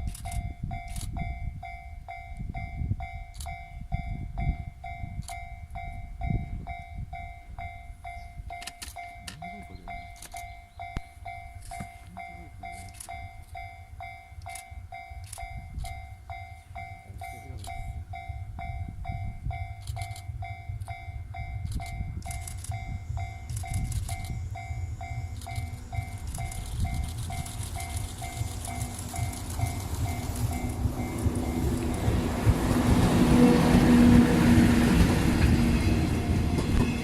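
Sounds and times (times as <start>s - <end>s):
level-crossing warning bell: 0.0s - 32.3s, 33.0s - 37.0s
train rumbling: 0.0s - 37.0s.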